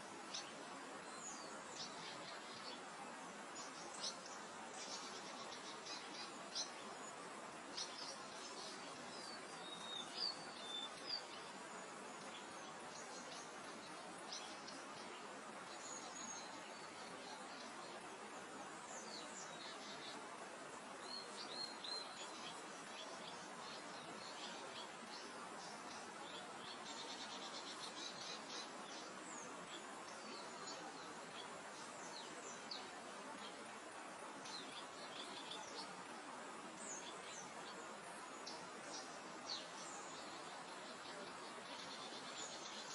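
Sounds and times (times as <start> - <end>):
small birds chirping: 0.0 - 42.9
wind through grass: 0.0 - 42.9.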